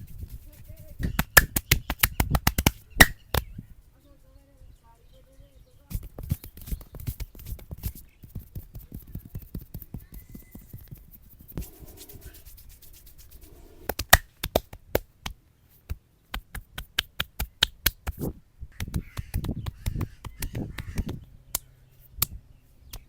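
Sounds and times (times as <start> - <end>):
hands slapping and tapping head: 0.1 - 3.5, 5.9 - 23.0.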